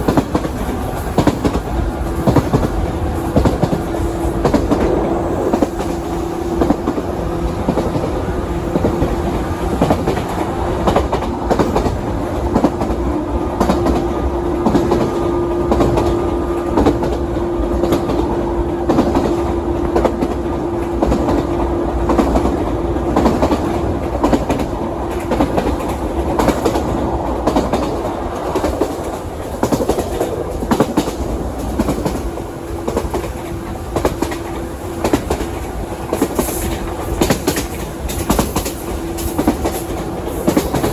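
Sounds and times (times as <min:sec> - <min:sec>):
clickety-clack of rail joints: 0:00.0 - 0:40.9
train wheels rumbling on rails: 0:00.0 - 0:40.9.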